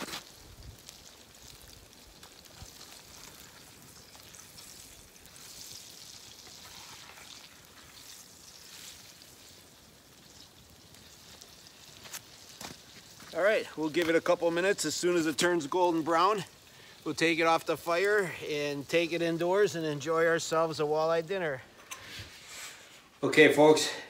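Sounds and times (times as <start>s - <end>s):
fish deep-frying in oil: 0.0s - 21.1s.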